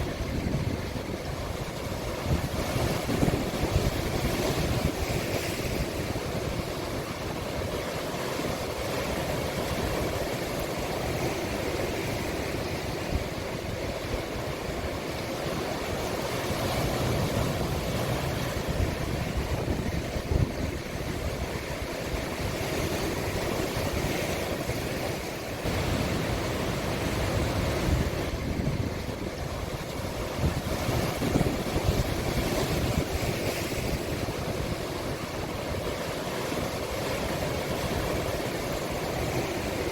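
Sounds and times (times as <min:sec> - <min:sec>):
wind buffeting microphone: 0:00.0 - 0:07.9, 0:08.5 - 0:39.9
sea waves breaking: 0:00.0 - 0:39.9.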